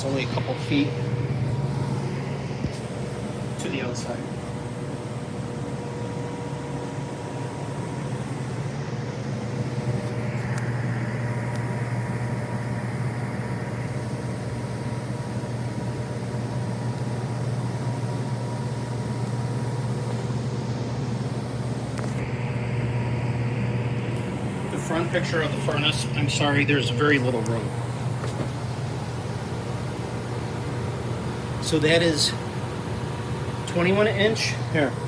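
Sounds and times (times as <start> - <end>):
faint constant whine: 0.0 - 35.0
hvac equipment humming: 0.0 - 35.0.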